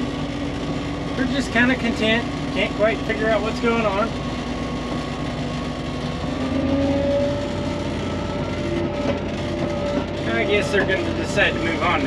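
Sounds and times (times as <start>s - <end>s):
vehicle engine running with whine: 0.0s - 12.0s.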